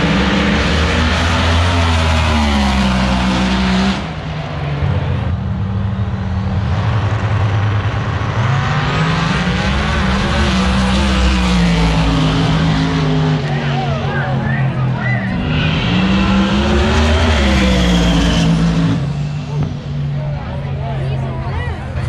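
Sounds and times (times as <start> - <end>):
race car engines revving: 0.0 - 22.0.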